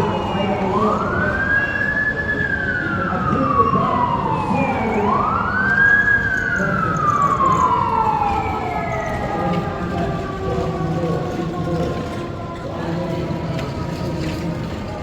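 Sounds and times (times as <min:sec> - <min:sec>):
siren wailing: 0:00.0 - 0:12.9
low rumble of street noise: 0:00.0 - 0:15.0.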